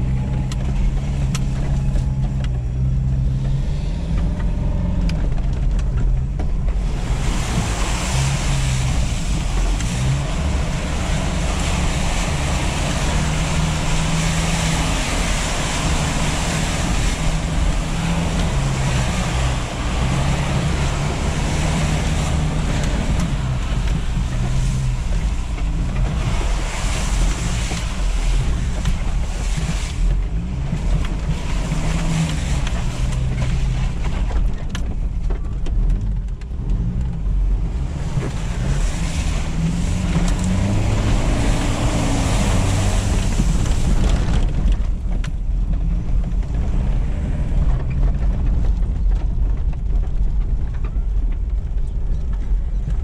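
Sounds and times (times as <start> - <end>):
tyres splashing through mud: 0.0 - 53.0.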